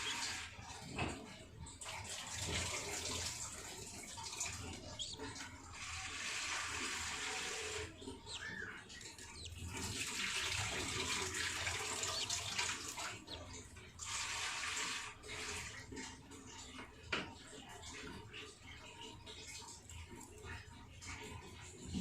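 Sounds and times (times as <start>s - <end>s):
water running: 0.0s - 22.0s.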